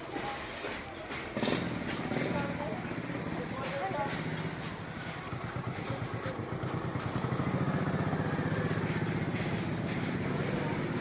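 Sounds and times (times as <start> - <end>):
small motorbike engine running: 1.4 - 11.0.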